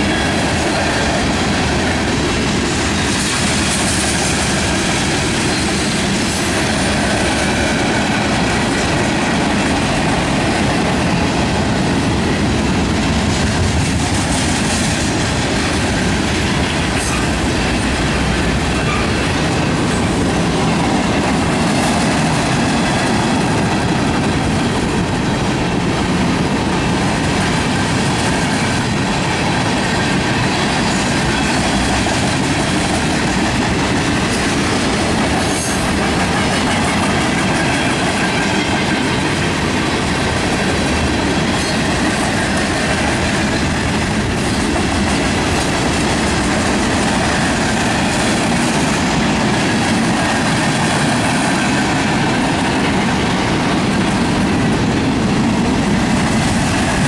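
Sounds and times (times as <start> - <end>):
steel wheels running on rails: 0.0 - 57.0.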